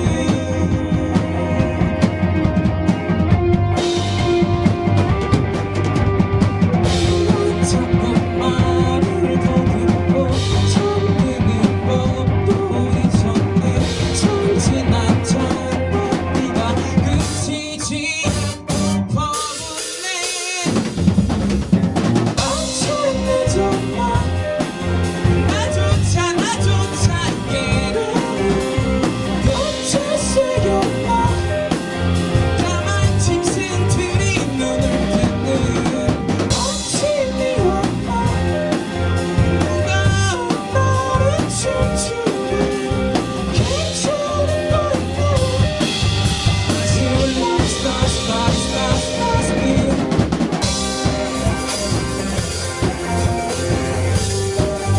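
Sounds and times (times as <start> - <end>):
bass guitar: 0.0 - 54.9
drum kit: 0.0 - 54.9
electric guitars with bent lead lines: 0.0 - 54.9.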